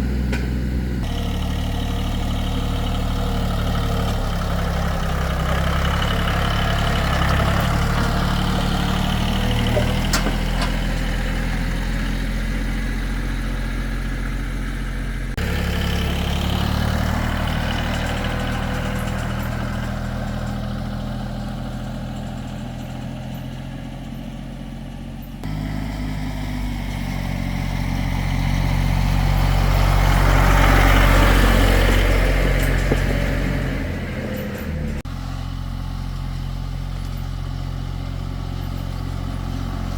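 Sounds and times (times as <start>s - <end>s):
tractor engine humming: 0.0s - 39.9s.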